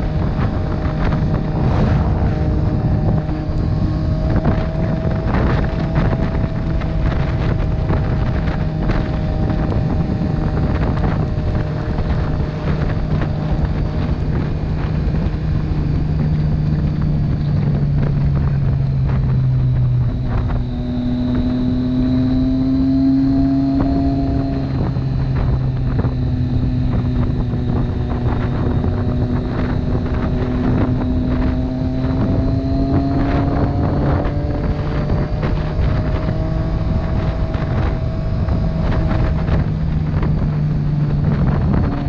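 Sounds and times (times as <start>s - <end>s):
motorcycle engine running: 0.0s - 42.0s
wind on microphone: 0.0s - 42.0s.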